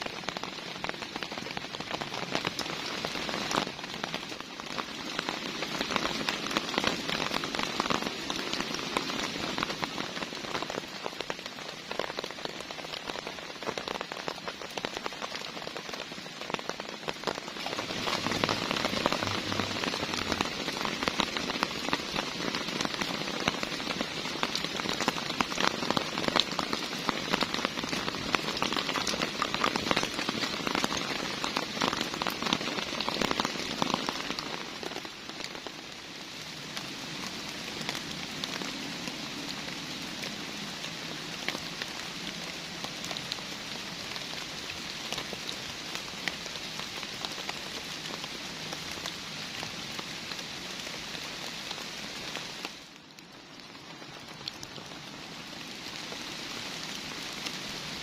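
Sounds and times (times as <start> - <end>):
heavy rain falling: 0.0 - 58.0
raindrops ticking: 0.0 - 58.0.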